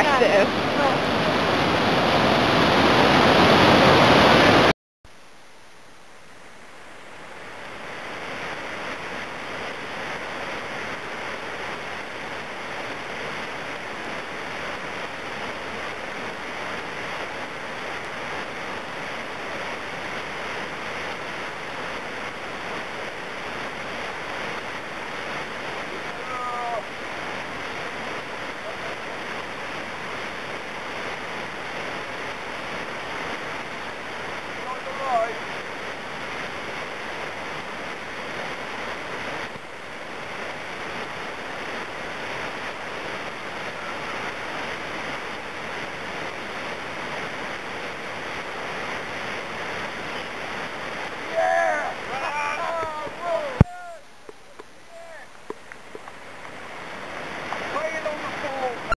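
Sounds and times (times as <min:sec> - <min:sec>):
whitewater rapids rushing: 0:00.0 - 0:04.7, 0:07.3 - 0:58.9.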